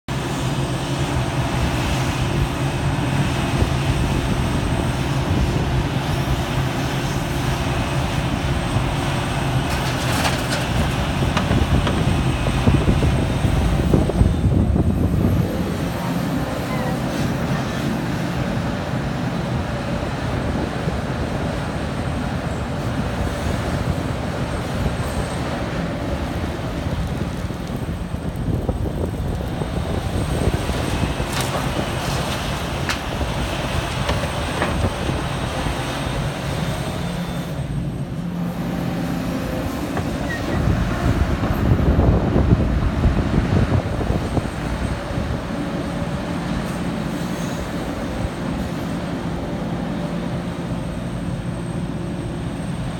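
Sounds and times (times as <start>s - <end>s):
excavator diesel engine running: 0.1s - 52.9s.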